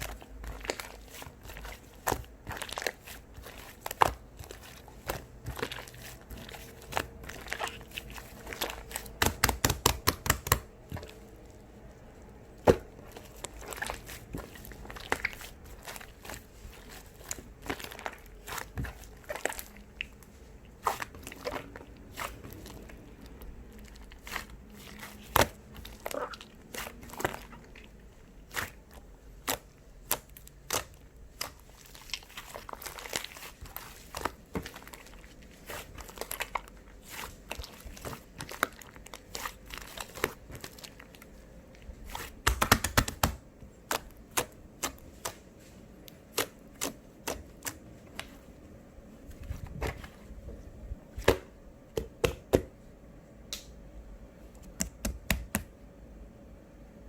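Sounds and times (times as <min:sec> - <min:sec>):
slime squished by hand: 0:00.0 - 0:48.6.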